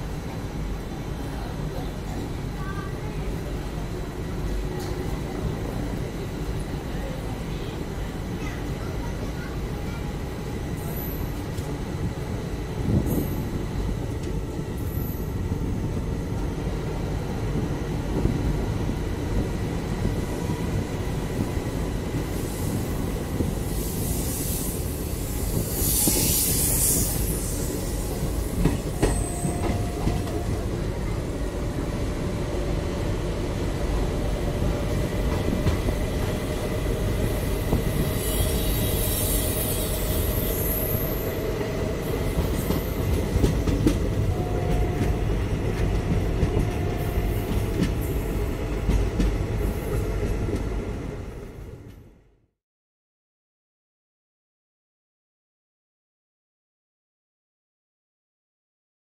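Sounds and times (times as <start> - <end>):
train wheels rumbling on rail: 0.0 - 52.2.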